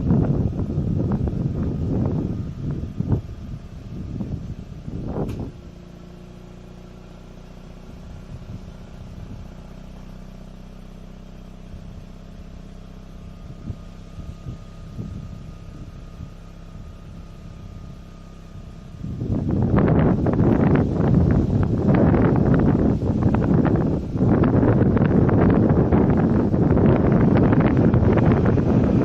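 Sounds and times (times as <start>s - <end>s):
rotary engine idling: 0.0s - 29.0s.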